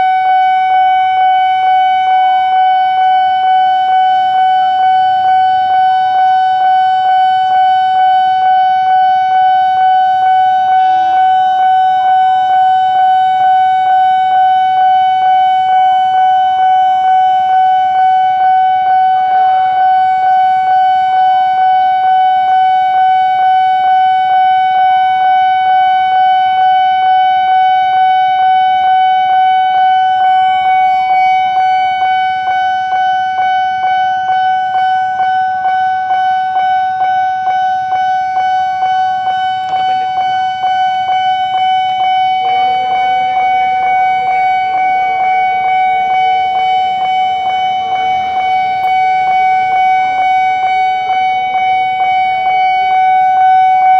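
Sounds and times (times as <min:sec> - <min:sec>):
level-crossing alarm pulsing: 0:00.0 - 0:53.9.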